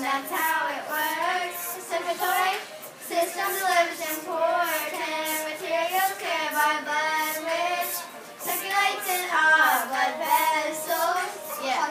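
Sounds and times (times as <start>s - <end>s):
children singing together: 0.0s - 11.9s.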